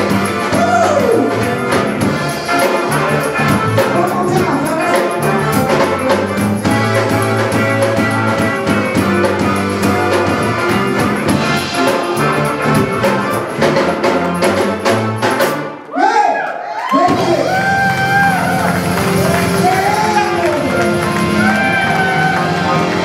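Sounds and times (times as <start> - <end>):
live band playing dance music: 0.0 - 15.8, 17.0 - 23.0.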